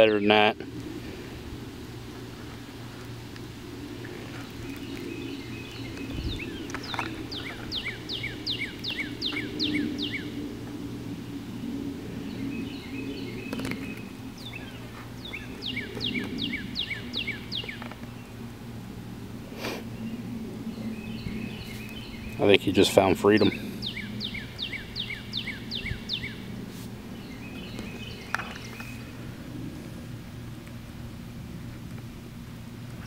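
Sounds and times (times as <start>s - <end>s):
songbird singing: 0.0s - 30.8s
low background hum: 0.0s - 33.0s.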